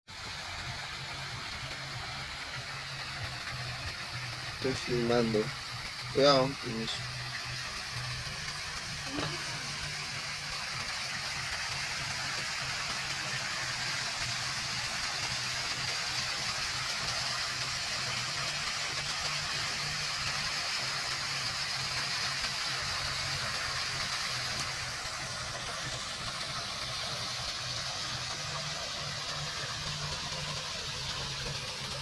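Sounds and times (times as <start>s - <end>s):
fountain water splashing: 0.1s - 32.0s.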